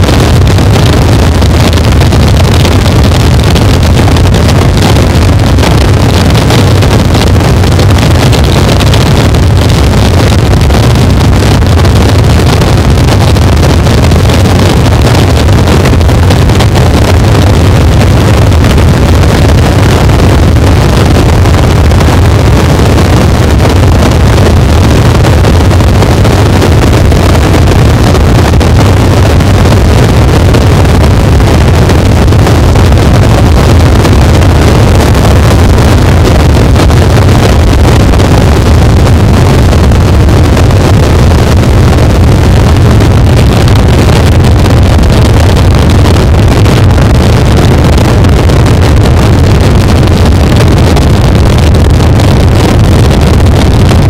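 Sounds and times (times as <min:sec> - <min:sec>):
distorted electronic noise: 0:00.0 - 0:54.0.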